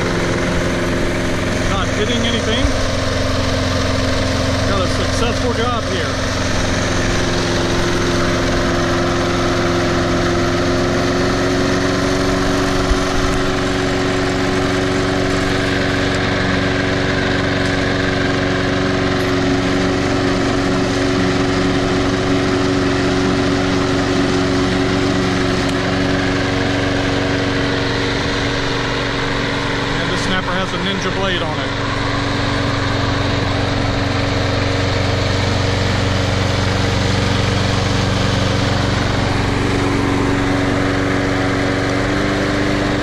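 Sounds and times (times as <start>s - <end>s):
lawn mower engine cutting grass: 0.0s - 43.0s.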